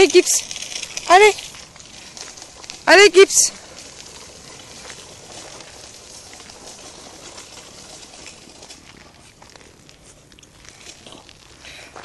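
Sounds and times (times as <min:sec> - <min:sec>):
faint outdoor hiss: 0:00.0 - 0:12.0
light rustles and ticks: 0:00.0 - 0:12.0.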